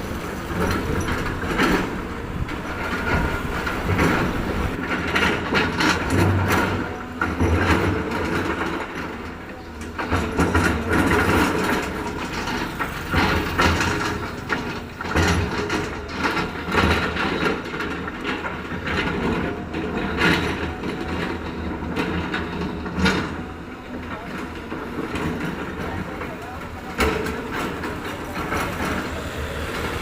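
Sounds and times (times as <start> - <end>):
diesel engine running: 0.0 - 30.0
metallic clanks and knocks: 0.1 - 30.0.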